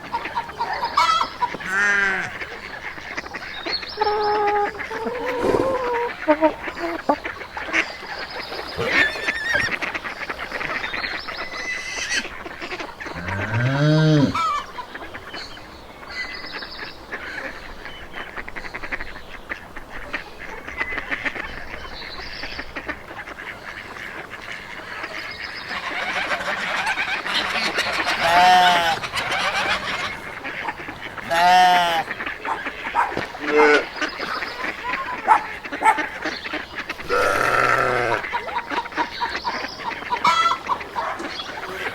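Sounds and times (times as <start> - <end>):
geese honking: 0.0 - 15.4, 16.1 - 41.9.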